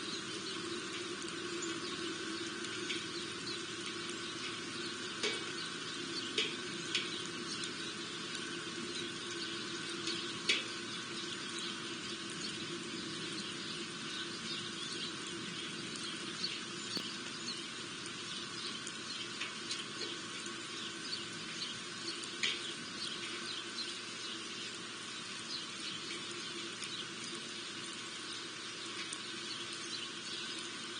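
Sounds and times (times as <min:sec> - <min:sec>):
small birds chirping: 0:00.0 - 0:30.9
steady background hum: 0:00.0 - 0:30.9.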